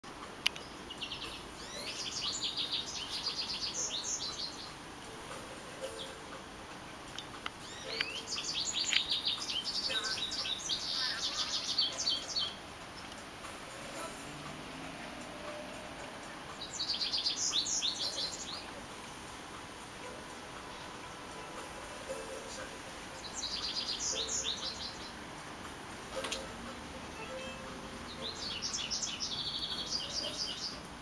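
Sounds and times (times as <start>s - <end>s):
bird chirping and twittering: 0.5s - 6.4s, 7.1s - 14.3s, 15.0s - 19.0s, 20.1s - 25.2s, 27.2s - 30.9s.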